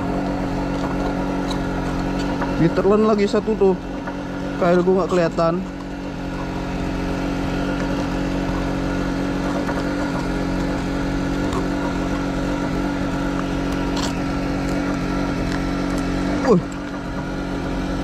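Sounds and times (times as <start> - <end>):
small engine droning: 0.0 - 18.0.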